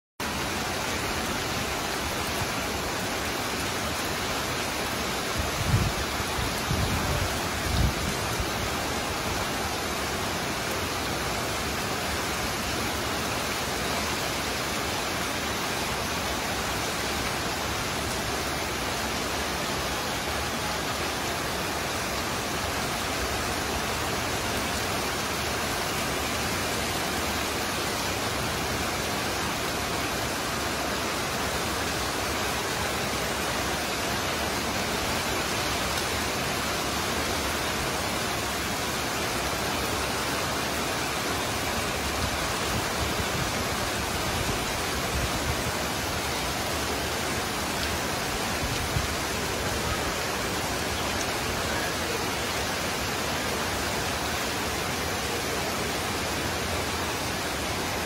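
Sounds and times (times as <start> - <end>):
heavy rain: 0.2 - 58.0.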